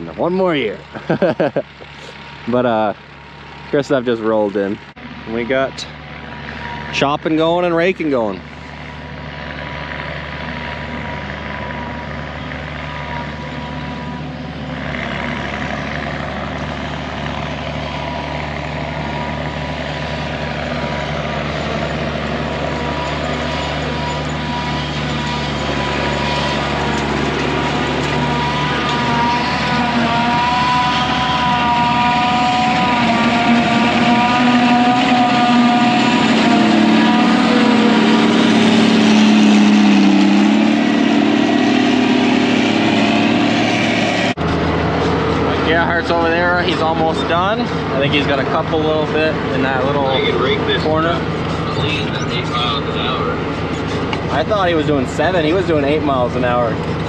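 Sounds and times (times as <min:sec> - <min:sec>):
heavy machinery engine whining: 0:00.0 - 0:57.0.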